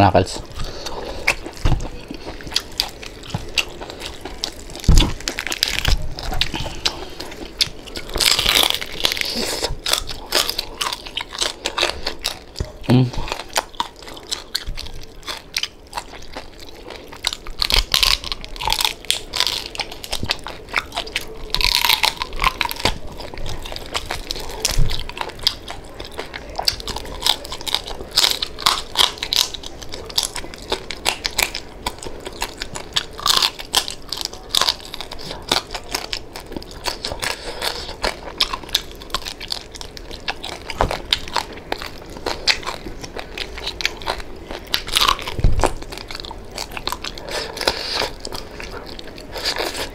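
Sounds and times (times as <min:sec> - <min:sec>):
crunchy chewing of crispy pork: 0:00.0 - 0:49.9.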